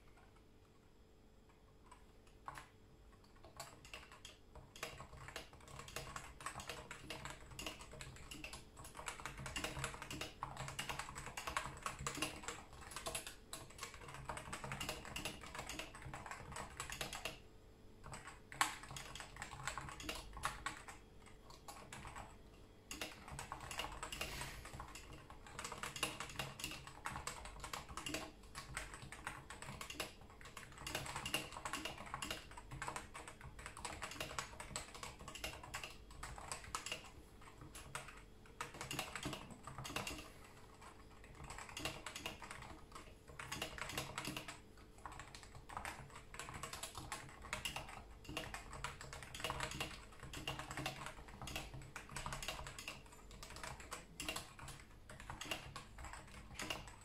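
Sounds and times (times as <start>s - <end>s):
fast keyboard typing: 0.0s - 57.0s.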